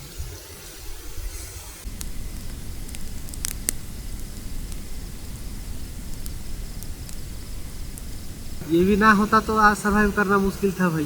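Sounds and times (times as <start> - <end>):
low rush: 0.1 - 11.0
sharp crackles: 0.8 - 11.0.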